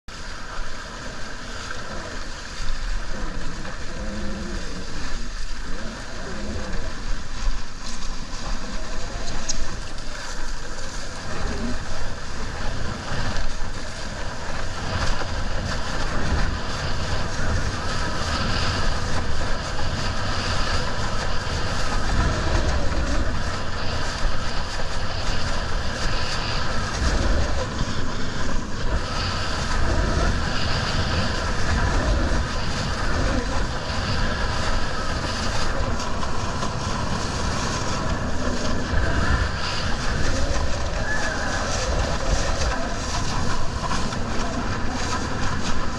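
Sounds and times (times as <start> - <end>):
water rushing under board: 0.1 - 45.9
wind buffeting microphone: 0.1 - 45.9.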